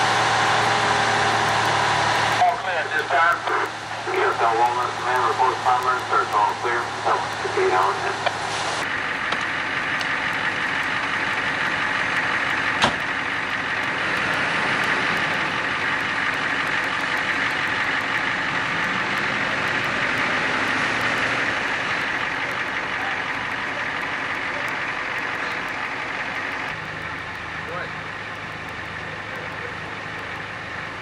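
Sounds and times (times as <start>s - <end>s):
fire engine running: 0.0s - 31.0s.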